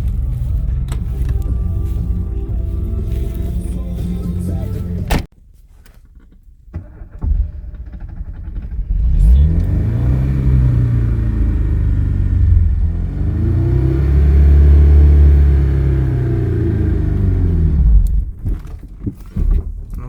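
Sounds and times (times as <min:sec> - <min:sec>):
car engine starting and revving: 0:00.0 - 0:05.3, 0:06.3 - 0:18.7.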